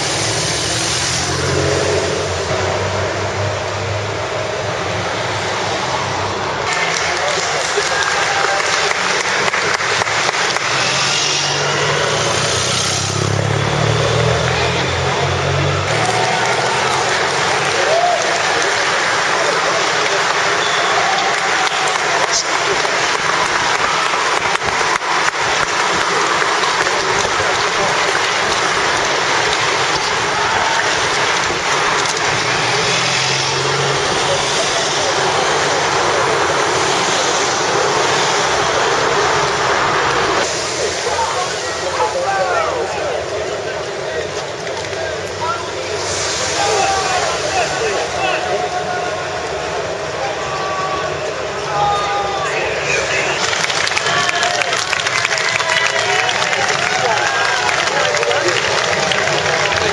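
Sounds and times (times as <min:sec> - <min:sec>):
spectators clapping and cheering: 0:00.0 - 0:59.9
vehicle engines passing: 0:00.0 - 0:59.9.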